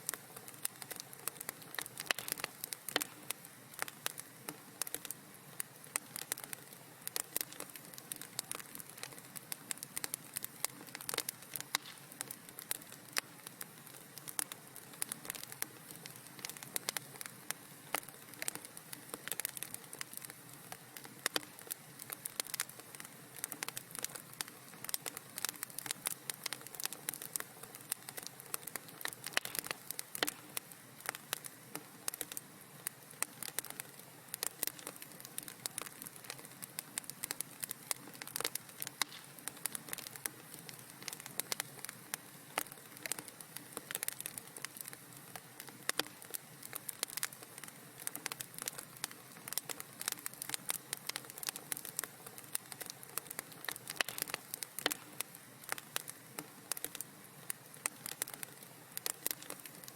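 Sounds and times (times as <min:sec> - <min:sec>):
soft hiss: 0:00.0 - 0:59.9
wood fire crackling and popping: 0:00.0 - 0:59.9.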